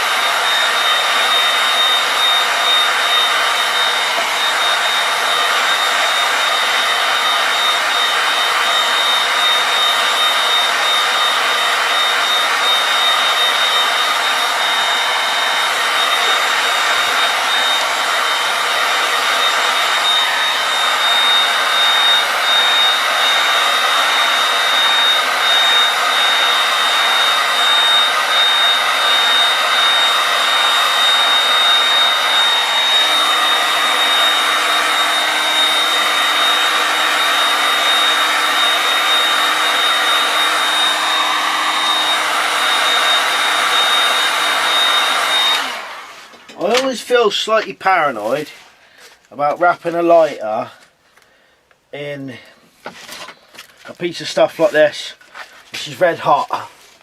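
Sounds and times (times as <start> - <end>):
heat gun blowing air: 0.0 - 50.9.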